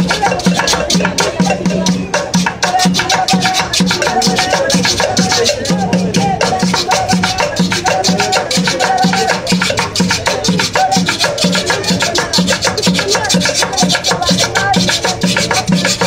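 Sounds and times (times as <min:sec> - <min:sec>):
children singing: 0:00.0 - 0:16.0
shaker percussion beat: 0:00.0 - 0:16.0
upbeat latin music: 0:00.0 - 0:16.0.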